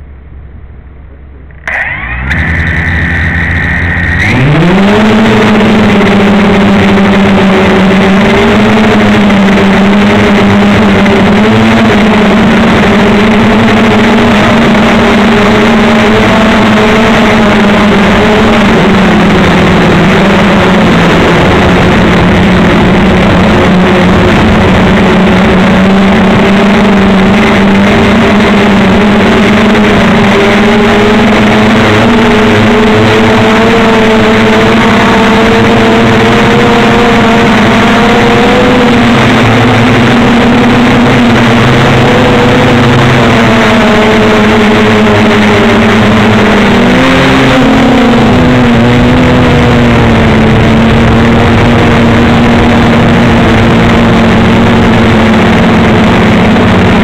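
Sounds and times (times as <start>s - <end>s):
quadcopter motors humming: 1.5s - 57.0s.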